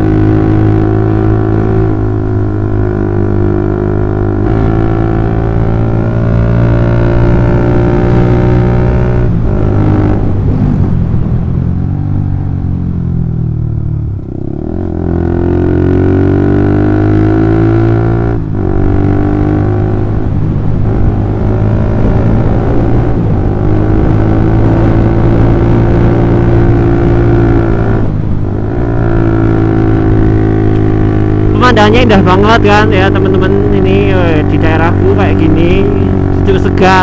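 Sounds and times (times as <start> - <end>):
motorcycle engine under way: 0.0 - 37.0.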